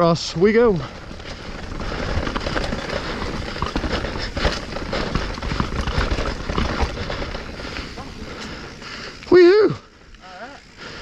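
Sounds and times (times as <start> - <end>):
low riding rumble: 0.0 - 11.0
mountain bike clattering over rocks: 0.4 - 9.9.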